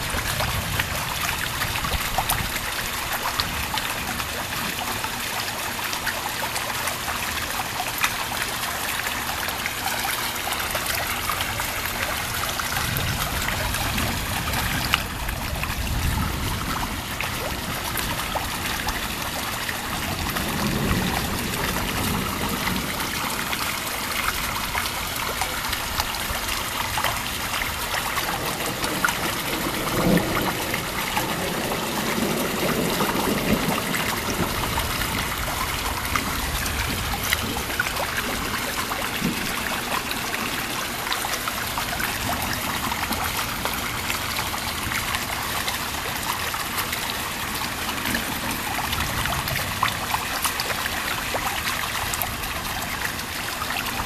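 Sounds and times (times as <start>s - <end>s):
heavy rain: 0.0s - 54.0s
water trickling: 0.0s - 54.0s.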